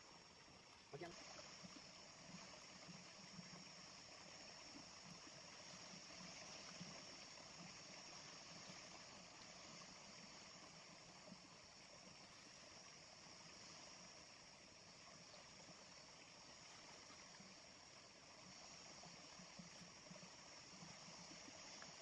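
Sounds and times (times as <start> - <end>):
small river flowing: 0.0 - 22.0.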